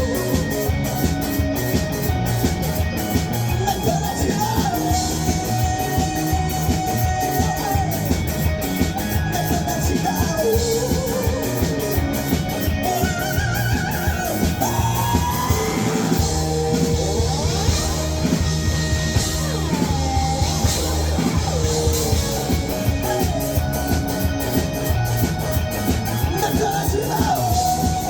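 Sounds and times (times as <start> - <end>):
person singing wordless lines: 0.0 - 1.1, 3.1 - 28.0
drums: 0.0 - 28.0
electric guitars: 0.0 - 28.0.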